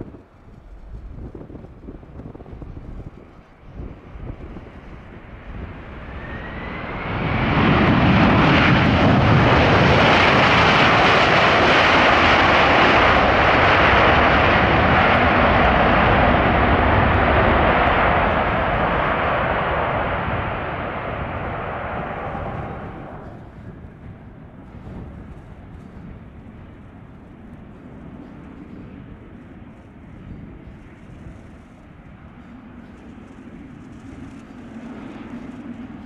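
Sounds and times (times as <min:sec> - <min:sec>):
jet engines roaring on takeoff: 0:00.0 - 0:36.0.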